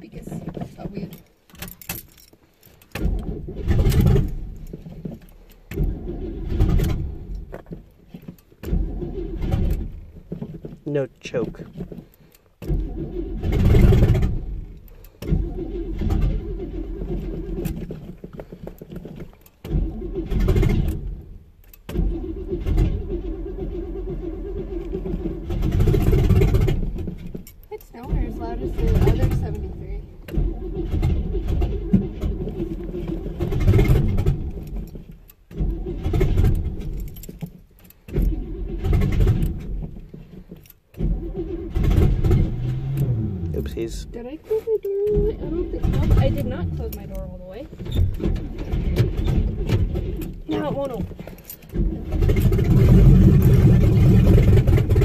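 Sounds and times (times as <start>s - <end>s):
engine cranking by starter: 0.0s - 55.0s.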